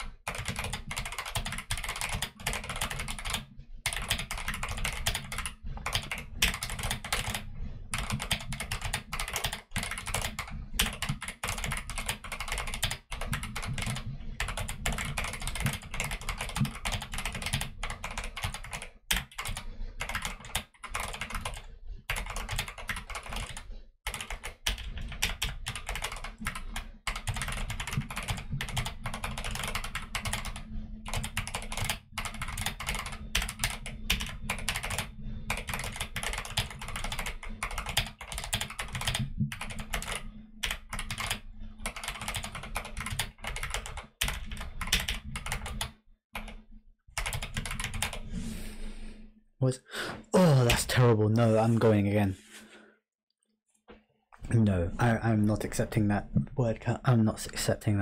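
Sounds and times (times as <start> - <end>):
mechanical keyboard typing: 0.0 - 46.6, 47.2 - 48.3.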